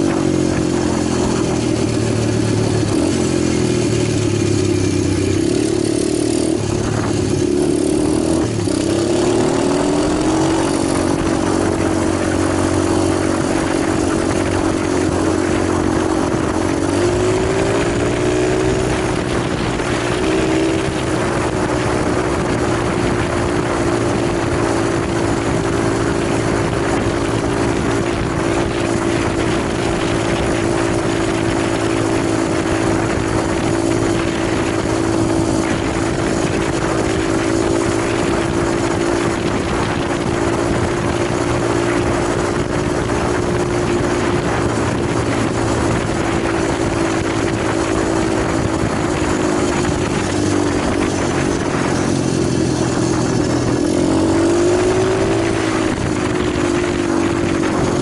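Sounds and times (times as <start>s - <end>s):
pit bike engine running: 0.0s - 58.0s.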